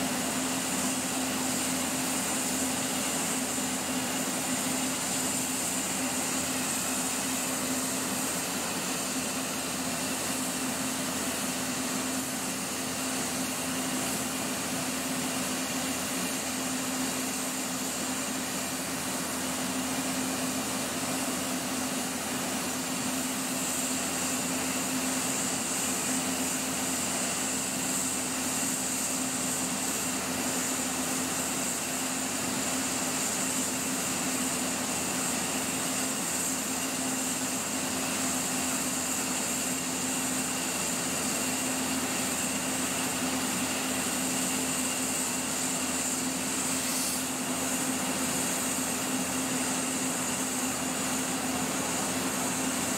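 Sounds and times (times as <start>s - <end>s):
locomotive blowers whirring hum: 0.0s - 52.9s.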